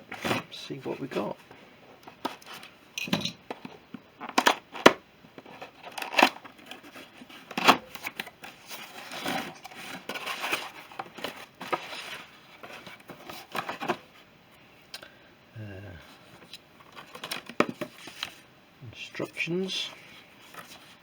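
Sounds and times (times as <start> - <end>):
cardboard and plastic rustling: 0.0 - 2.8, 3.4 - 14.3, 16.1 - 18.5, 19.2 - 21.0.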